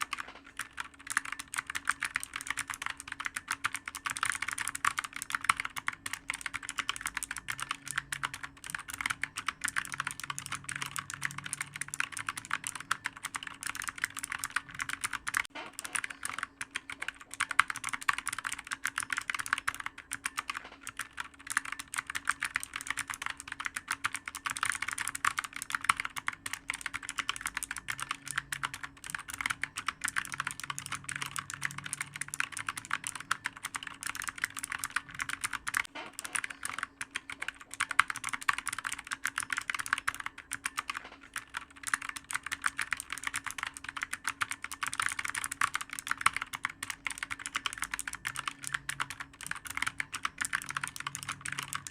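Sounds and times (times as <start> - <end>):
faint steady hum: 0.0 - 51.9
rapid keyboard typing: 0.0 - 51.9.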